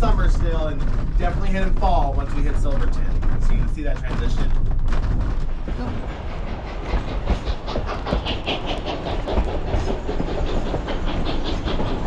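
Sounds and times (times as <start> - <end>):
train car rumbling on rails: 0.0 - 12.0
wheels clicking on track: 0.0 - 12.0.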